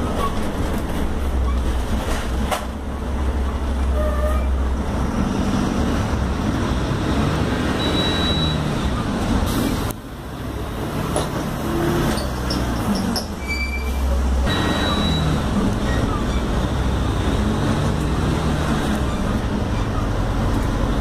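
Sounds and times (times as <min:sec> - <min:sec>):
bus diesel engine running: 0:00.0 - 0:21.0
road noise: 0:00.0 - 0:21.0.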